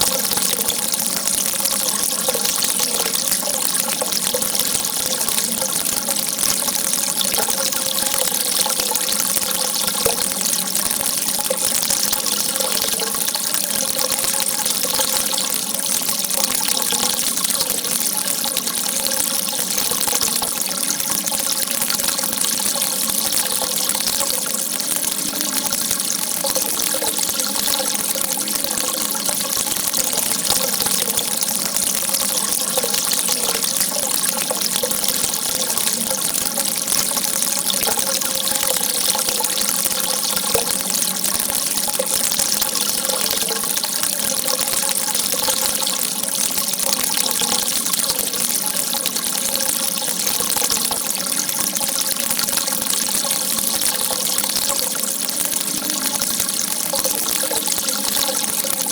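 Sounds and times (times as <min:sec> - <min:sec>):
water gushing: 0:00.0 - 0:58.9.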